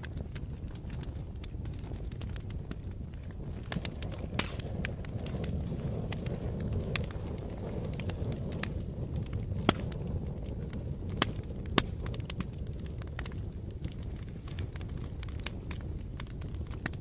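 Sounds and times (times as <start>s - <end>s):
fire burning with crackles: 0.0s - 17.0s
fire popping: 0.0s - 17.0s.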